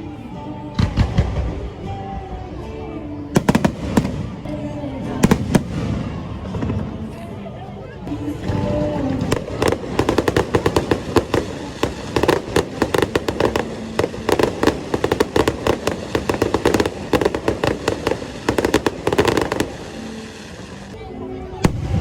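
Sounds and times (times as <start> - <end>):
fireworks bangs and crackles: 0.7 - 2.1, 3.3 - 4.5, 5.2 - 7.1, 8.1 - 22.0.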